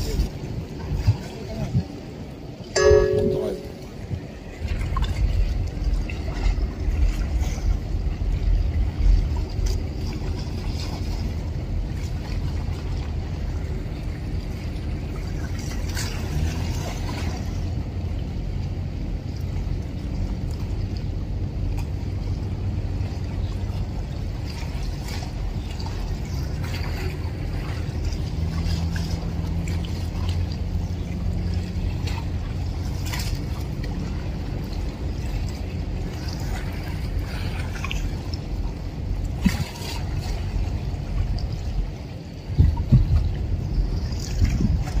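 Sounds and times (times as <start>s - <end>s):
deep ship engine rumble: 0.0s - 45.0s
water splashing and trickling: 0.0s - 45.0s.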